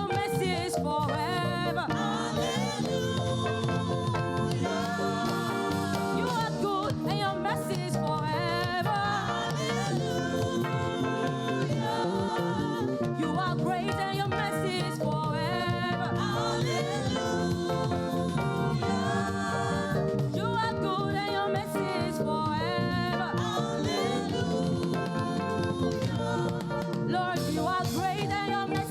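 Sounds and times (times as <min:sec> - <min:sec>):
choir singing: 0:00.0 - 0:28.9
gospel band accompaniment: 0:00.0 - 0:28.9.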